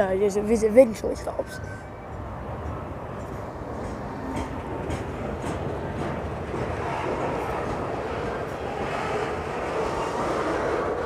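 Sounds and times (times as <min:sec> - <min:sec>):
train wheels rolling on rails: 0:01.4 - 0:11.0.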